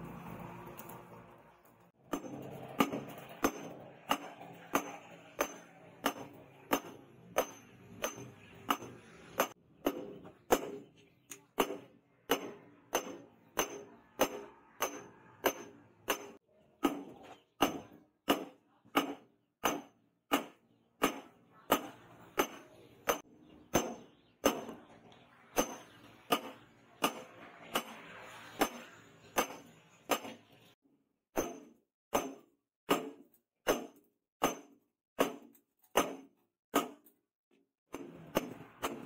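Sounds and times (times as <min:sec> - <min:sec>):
hammer striking steel on anvil: 0:02.0 - 0:24.8, 0:25.6 - 0:30.6, 0:31.4 - 0:37.1, 0:37.9 - 0:39.0.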